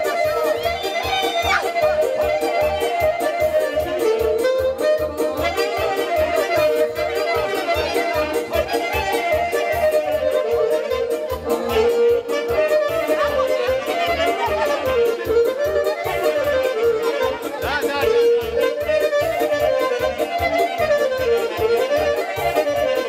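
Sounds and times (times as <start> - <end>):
lively instrumental dance music: 0.0 - 23.0.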